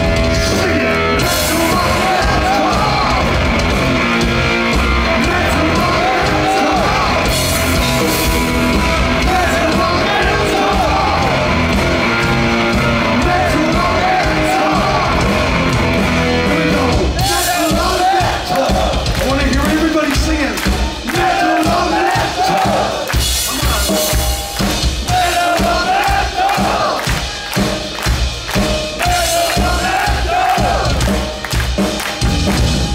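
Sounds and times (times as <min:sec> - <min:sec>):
heavy metal band playing live: 0:00.0 - 0:32.9
singer yelling and singing: 0:00.2 - 0:24.2, 0:25.0 - 0:27.0, 0:29.0 - 0:31.1.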